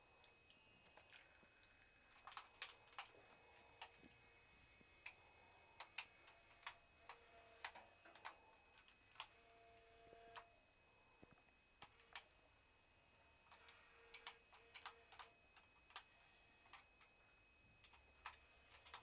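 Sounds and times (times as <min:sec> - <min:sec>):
faint hums: 0:00.0 - 0:19.0.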